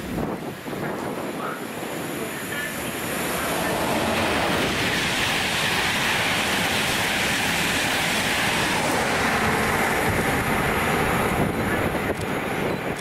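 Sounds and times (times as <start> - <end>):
train passing: 0.0 - 13.0.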